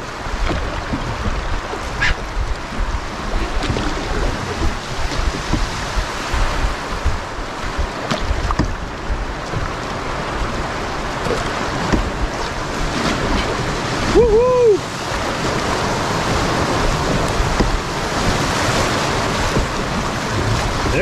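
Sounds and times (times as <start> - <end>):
whitewater rushing and splashing: 0.0 - 21.0
wind rumbling on microphone: 0.0 - 21.0.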